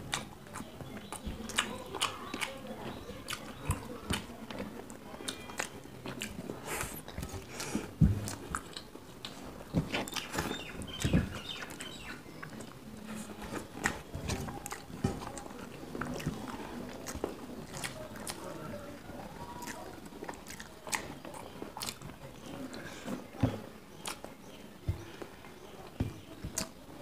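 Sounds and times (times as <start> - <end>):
people chewing food: 0.0 - 27.0.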